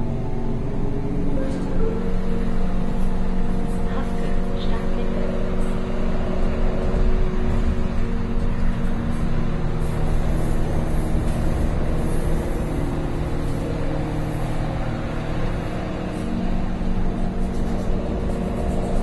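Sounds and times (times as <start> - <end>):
humming tones: 0.0 - 19.0
train rumbling on tracks: 0.0 - 19.0.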